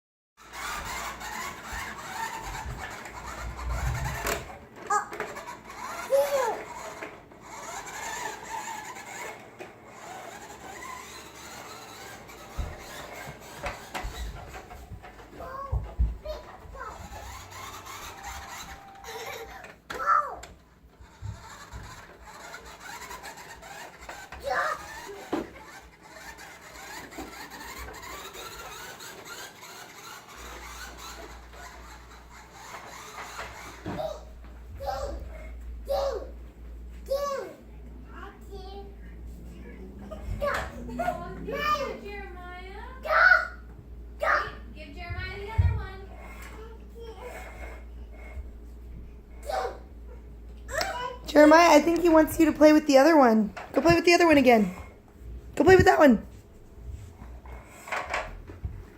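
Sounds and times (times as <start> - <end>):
toy trucks scraping on floor: 0.4 - 36.3, 38.1 - 43.6, 44.2 - 49.9, 50.6 - 58.9.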